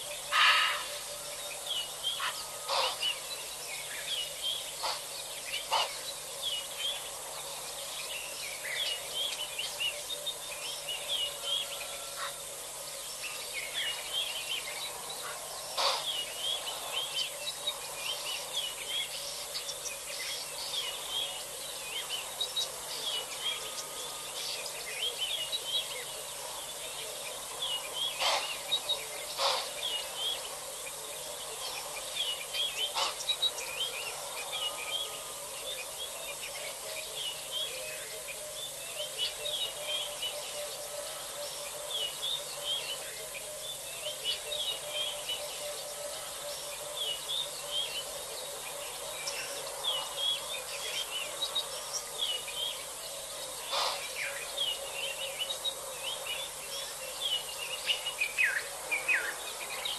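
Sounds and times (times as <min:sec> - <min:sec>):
faint continuous hum: 0:00.0 - 0:59.9
small birds chirping: 0:00.0 - 0:59.9
steady hiss: 0:00.0 - 0:59.9.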